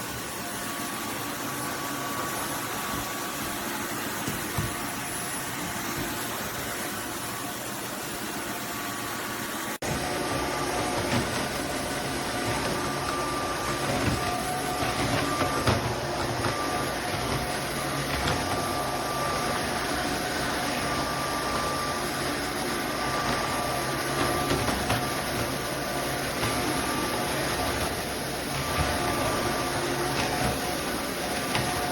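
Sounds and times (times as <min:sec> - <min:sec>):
vacuum mop motor whining: 0:00.0 - 0:31.9.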